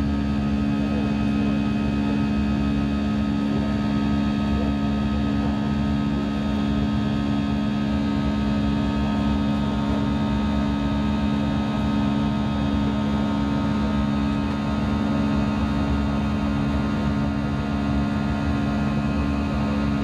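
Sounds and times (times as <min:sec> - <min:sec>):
jet engines droning in cabin: 0:00.0 - 0:20.0
steady humming tones: 0:00.0 - 0:20.0.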